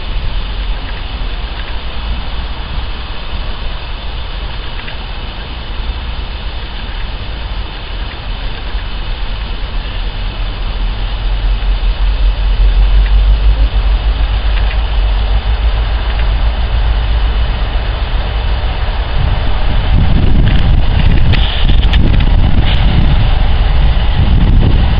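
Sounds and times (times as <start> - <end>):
diesel locomotive engine rumble: 0.0 - 24.9.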